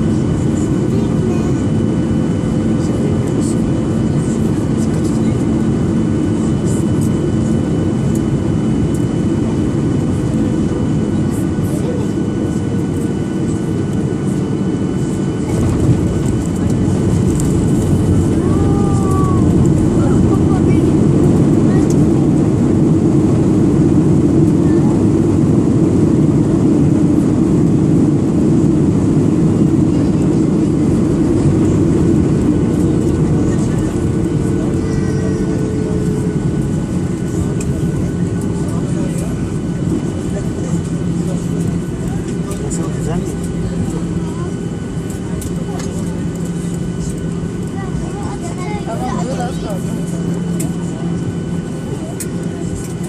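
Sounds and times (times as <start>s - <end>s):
jet engines and airflow: 0.0s - 53.0s.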